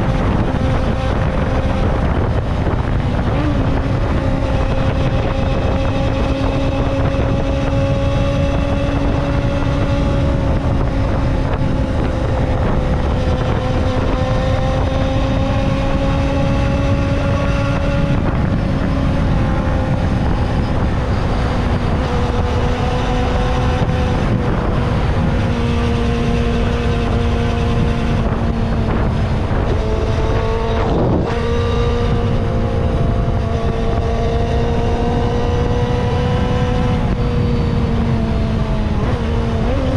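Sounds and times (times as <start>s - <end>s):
motorcycle engine at high revs: 0.0s - 39.9s
wind noise on microphone: 0.0s - 39.9s.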